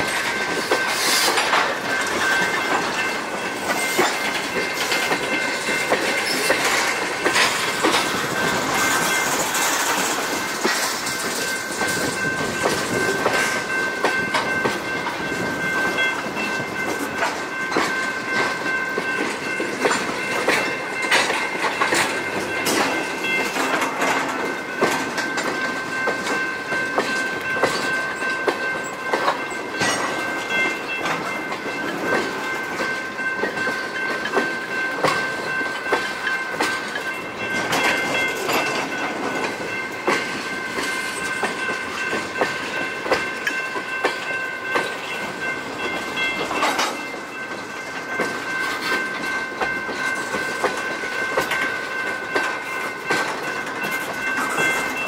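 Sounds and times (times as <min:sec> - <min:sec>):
train wheels clanking over rail joints: 0:00.0 - 0:55.0.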